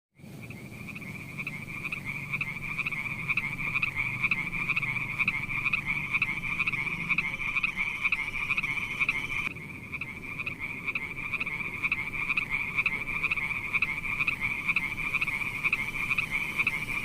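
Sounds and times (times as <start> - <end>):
frogs croaking chorus: 0.2 - 17.0.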